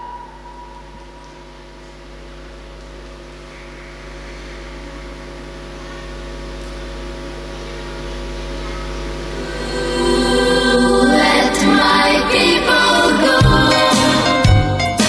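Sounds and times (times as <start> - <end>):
ice rink background hum and hiss: 0.0 - 13.5.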